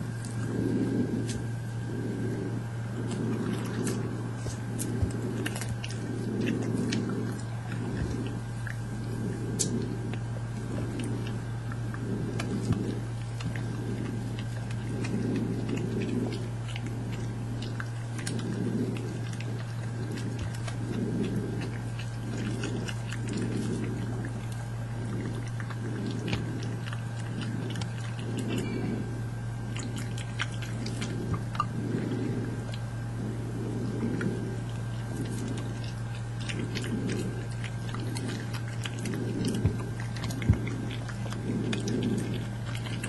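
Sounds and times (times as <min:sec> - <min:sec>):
animal chewing: 0:00.0 - 0:43.0
low hum: 0:00.0 - 0:43.0.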